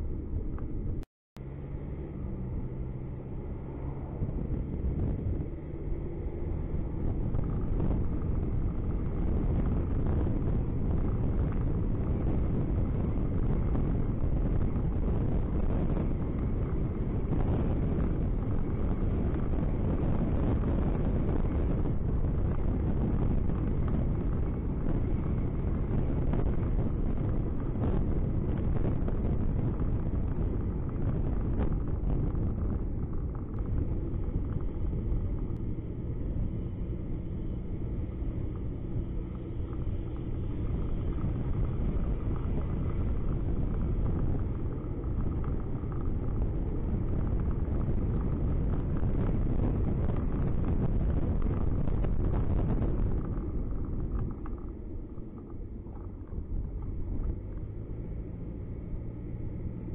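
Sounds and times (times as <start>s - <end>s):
car interior engine and tyre rumble: 0.0s - 59.9s.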